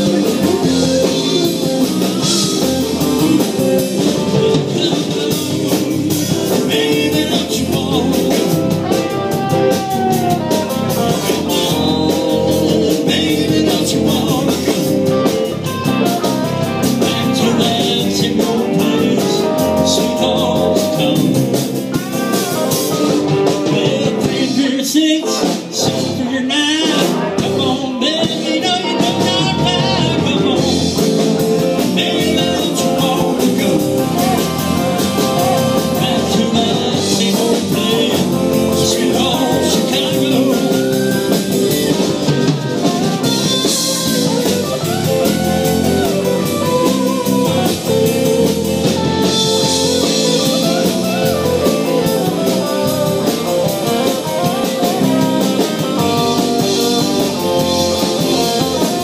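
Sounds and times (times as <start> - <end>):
live blues-rock band: 0.0 - 59.0.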